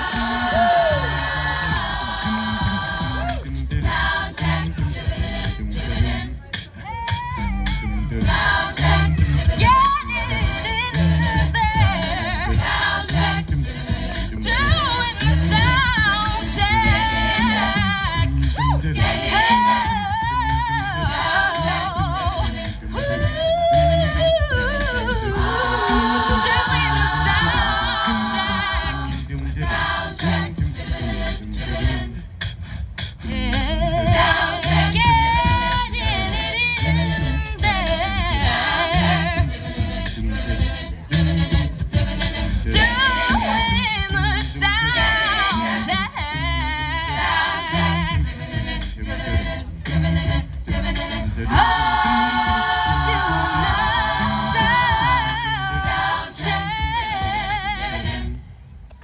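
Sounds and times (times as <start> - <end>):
backing voices singing: 0.0 - 58.9
low sung bass line: 0.0 - 59.0.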